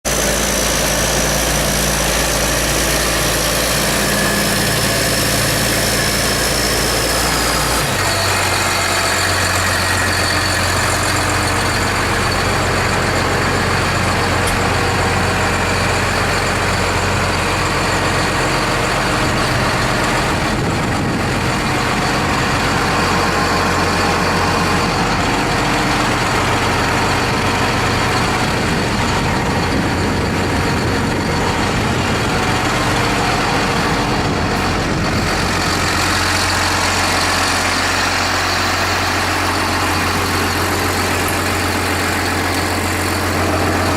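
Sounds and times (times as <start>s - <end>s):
tractor diesel engine running: 0.0s - 43.9s
high whine: 0.1s - 43.9s.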